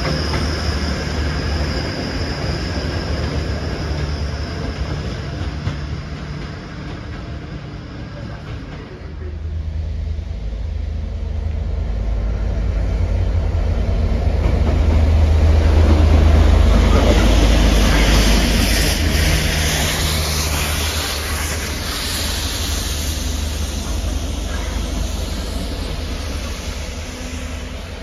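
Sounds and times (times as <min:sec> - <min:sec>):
diesel locomotive engine hum: 0:00.0 - 0:28.0.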